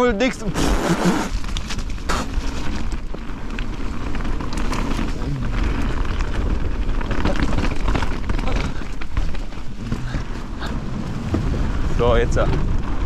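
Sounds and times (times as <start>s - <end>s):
bike clicks and rattles: 0.0s - 13.0s
tyres on dirt and loose stones: 0.0s - 13.0s
wind buffeting microphone: 0.0s - 13.0s.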